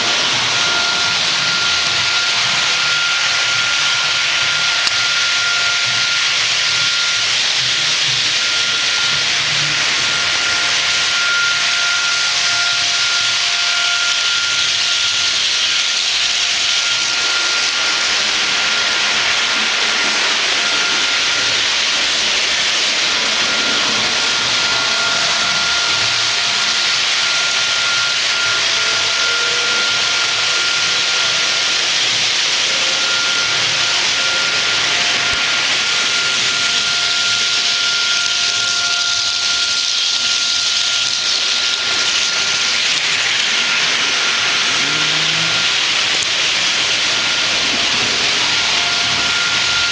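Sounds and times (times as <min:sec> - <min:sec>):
model train running on track: 0:00.0 - 0:49.9.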